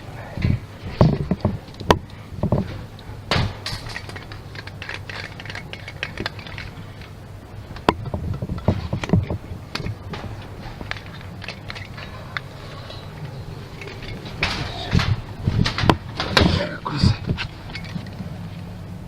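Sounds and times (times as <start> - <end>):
steady low hum: 0.0 - 19.0
hard objects clicking and knocking: 0.4 - 18.4.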